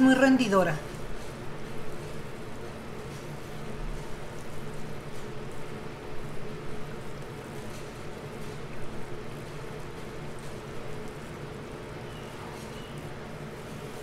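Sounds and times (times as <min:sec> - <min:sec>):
food deep-frying in oil: 0:00.0 - 0:14.0.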